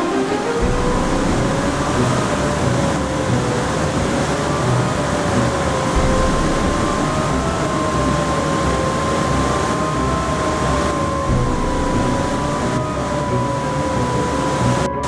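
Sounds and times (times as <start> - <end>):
continuous rushing noise: 0.0 - 15.0
motor humming: 0.0 - 15.0.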